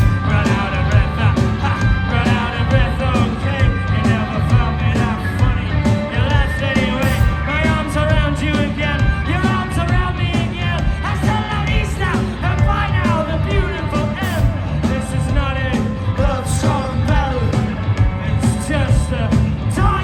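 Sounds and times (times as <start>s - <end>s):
lead vocal singing: 0.0s - 20.0s
rock band playing live: 0.0s - 20.0s.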